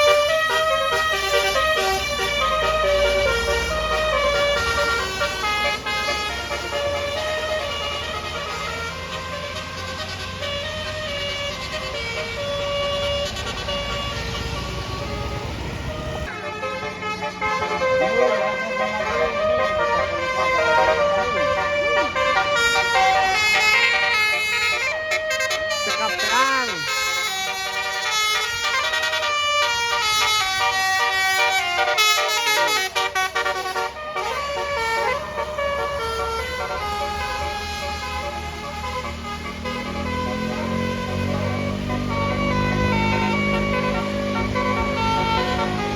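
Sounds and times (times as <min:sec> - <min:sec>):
bus engine running: 0:00.0 - 0:45.9
multi-note bus horn tune: 0:00.0 - 0:45.9.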